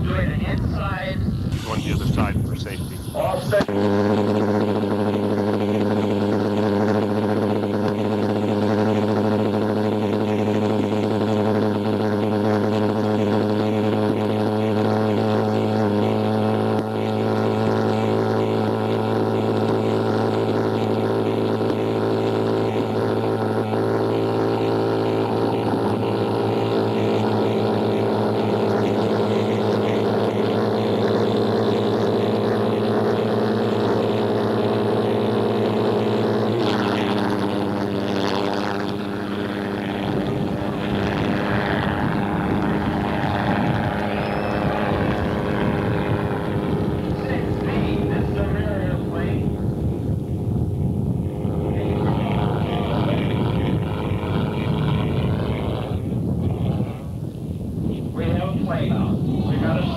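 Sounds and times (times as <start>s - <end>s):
pulse jet engine buzzing: 0.0s - 59.9s.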